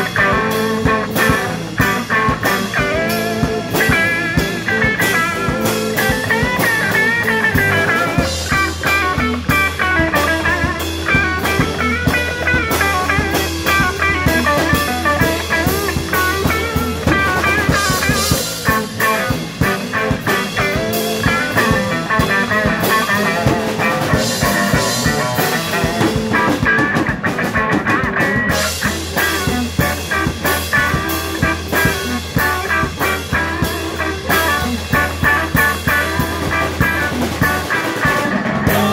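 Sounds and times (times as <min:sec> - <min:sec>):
distorted rhythm guitar: 0:00.0 - 0:38.9
drum kit: 0:00.0 - 0:38.9
electric bass: 0:00.0 - 0:38.9
electric guitar lead: 0:00.0 - 0:38.9.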